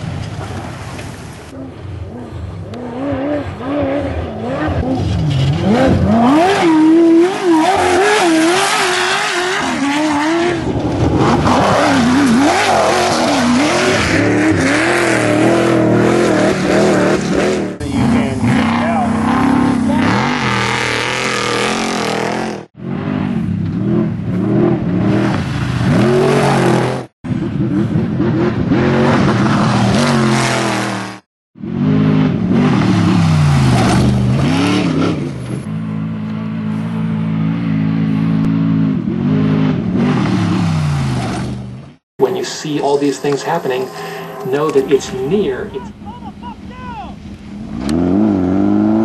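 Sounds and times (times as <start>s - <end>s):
race vehicle engine revving: 1.5s - 46.1s, 47.2s - 49.0s.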